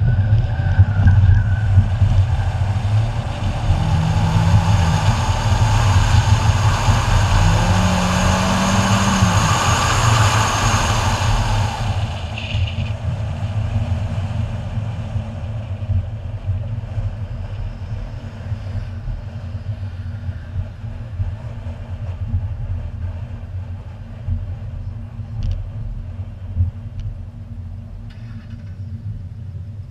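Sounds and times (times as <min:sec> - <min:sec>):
car engine rumble: 0:00.0 - 0:29.9.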